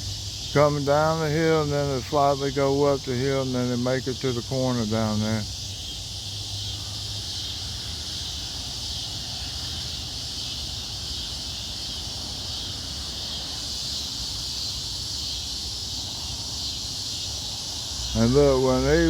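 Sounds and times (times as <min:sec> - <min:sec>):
crickets and night insects: 0:00.0 - 0:19.0
distant train rumble: 0:00.0 - 0:19.0.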